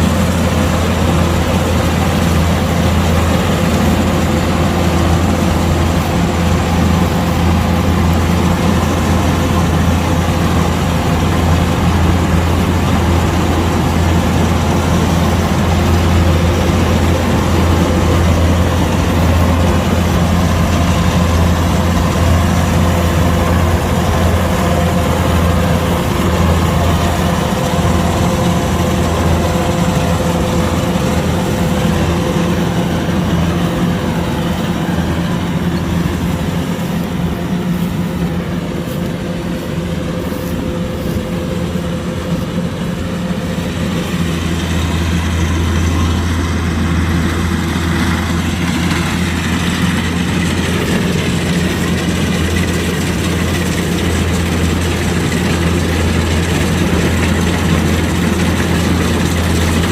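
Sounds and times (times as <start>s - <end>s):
diesel engine humming: 0.0s - 59.9s
machinery noise: 0.0s - 59.9s.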